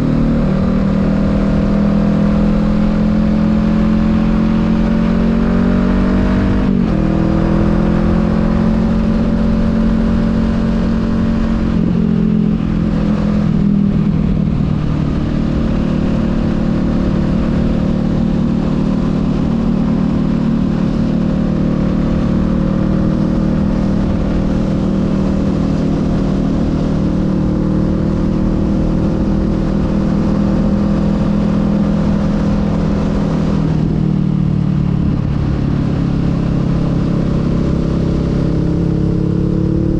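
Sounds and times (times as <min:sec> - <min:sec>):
wind noise: 0:00.0 - 0:21.6, 0:22.2 - 0:39.9
motorcycle engine running: 0:00.0 - 0:39.9.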